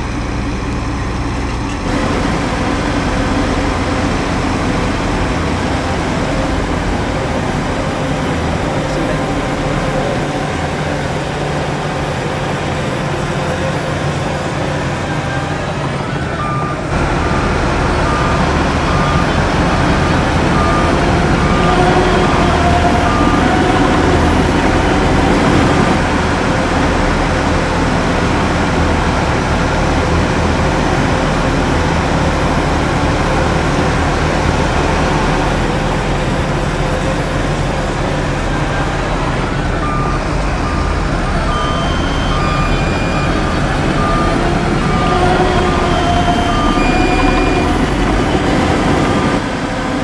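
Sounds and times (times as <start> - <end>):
heavy diesel machinery running: 0.0 - 50.0
reversing alarm beeping: 1.9 - 49.9.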